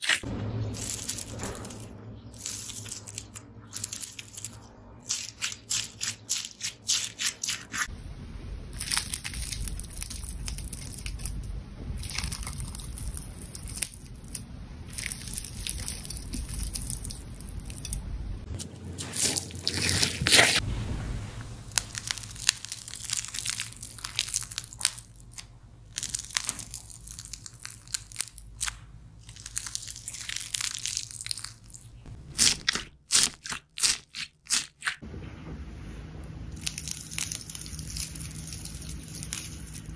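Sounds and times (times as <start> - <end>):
slime squelching: 0.0 - 8.0, 8.8 - 11.4, 12.0 - 35.0, 36.5 - 39.9.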